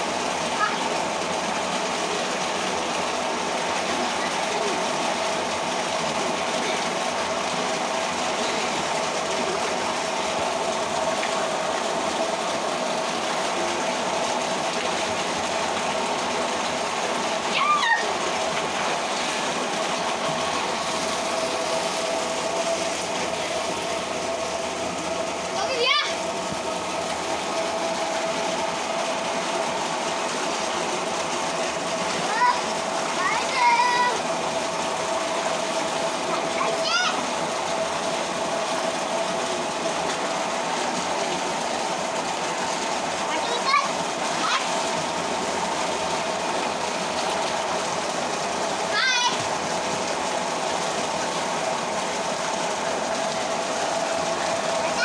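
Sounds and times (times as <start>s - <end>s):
pump humming: 0.0s - 55.0s
water churned by bathers: 0.0s - 55.0s
water gushing into a tank: 0.0s - 55.0s.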